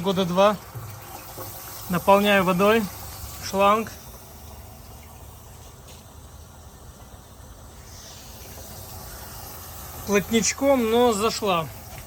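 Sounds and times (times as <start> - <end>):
hose water running into barrel: 0.0 - 12.0.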